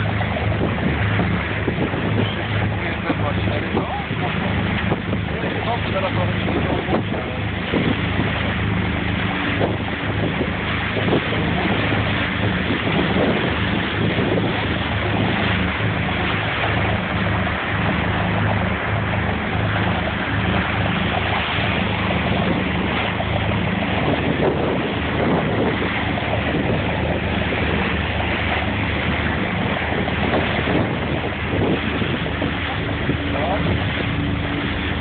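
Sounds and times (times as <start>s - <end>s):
boat engine droning: 0.0s - 35.0s
water rushing from wake: 0.0s - 35.0s
wind buffeting microphone: 0.0s - 35.0s.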